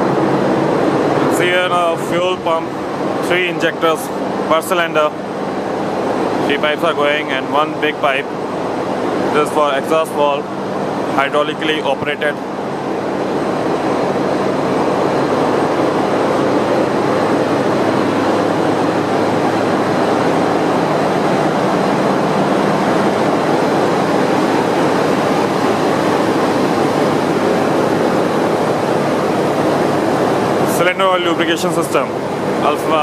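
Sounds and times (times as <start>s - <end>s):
engine room machinery din: 0.0s - 33.0s.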